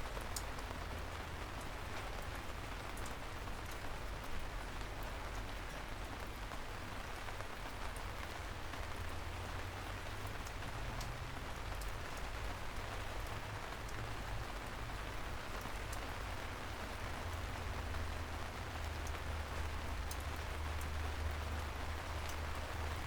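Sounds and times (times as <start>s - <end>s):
light rain on a street: 0.0s - 23.0s.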